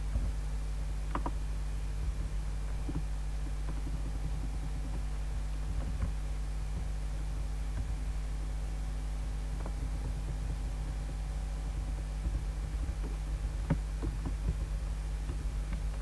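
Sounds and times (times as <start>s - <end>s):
low electrical hum: 0.0s - 16.0s
soft clicks and taps: 1.0s - 16.0s.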